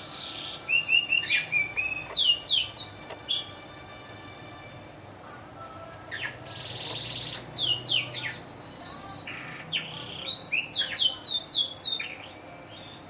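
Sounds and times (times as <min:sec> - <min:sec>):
canary singing trills: 0:00.0 - 0:03.7, 0:05.3 - 0:13.0.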